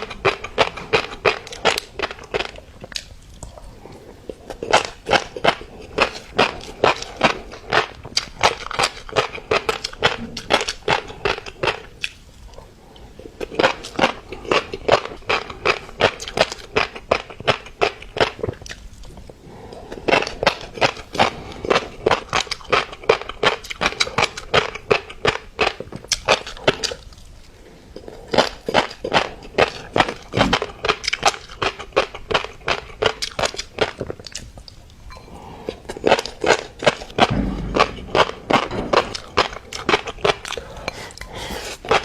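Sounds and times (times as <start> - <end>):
chewing popping fish eggs: 0.0 - 42.0.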